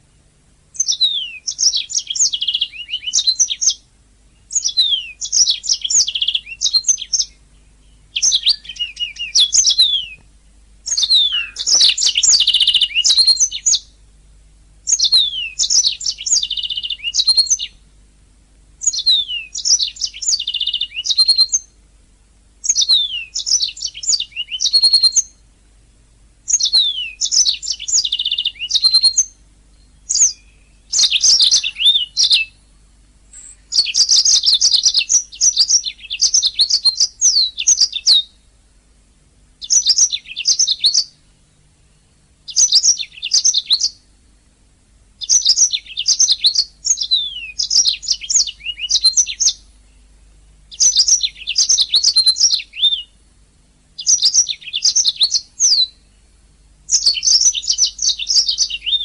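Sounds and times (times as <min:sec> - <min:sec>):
canary singing trills: 0:00.7 - 0:14.1, 0:14.8 - 0:18.0, 0:18.8 - 0:21.8, 0:22.6 - 0:25.5, 0:26.4 - 0:38.6, 0:39.6 - 0:44.2, 0:45.2 - 0:53.4, 0:54.0 - 0:59.0.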